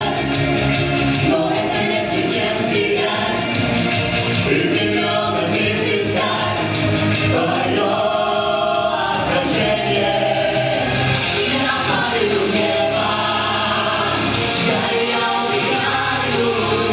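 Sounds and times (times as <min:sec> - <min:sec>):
music: 0:00.0 - 0:16.9
vocal ensemble singing: 0:00.0 - 0:16.9.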